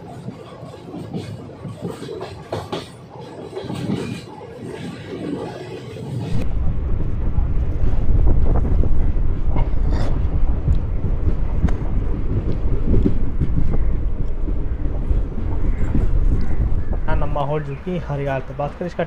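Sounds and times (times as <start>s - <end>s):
train rumbling: 0.0s - 19.0s
wind buffeting microphone: 0.0s - 19.0s.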